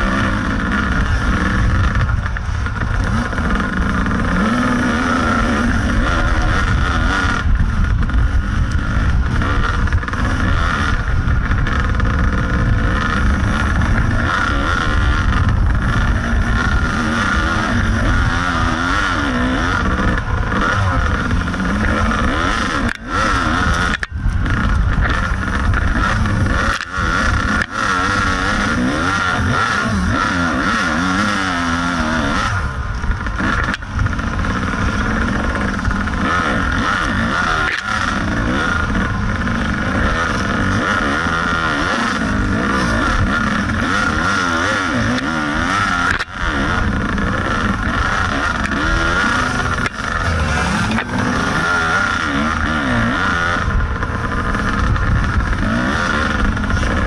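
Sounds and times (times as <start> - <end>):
two-stroke dirt bike engine revving: 0.0 - 57.0.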